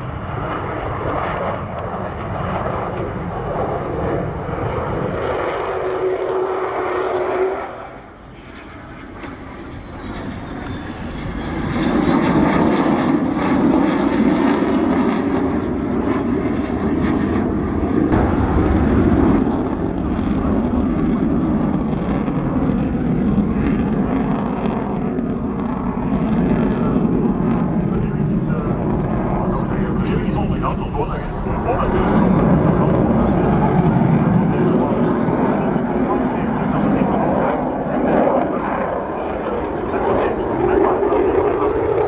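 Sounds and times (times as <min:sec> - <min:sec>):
aircraft engine flying past: 0:00.0 - 0:42.0.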